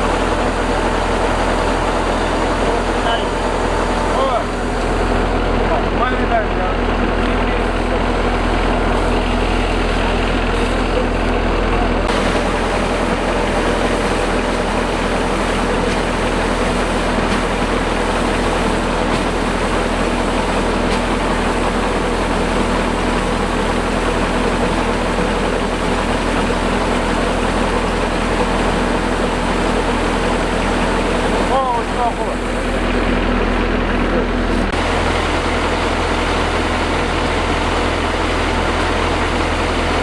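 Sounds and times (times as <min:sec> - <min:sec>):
combine harvester engine: 0:00.0 - 0:40.0.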